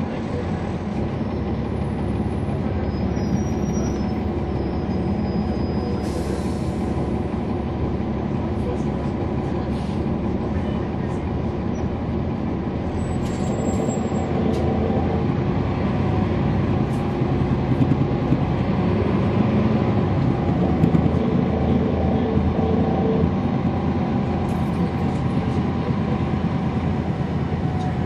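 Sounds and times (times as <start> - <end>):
bus diesel engine rumbling: 0.0 - 28.0.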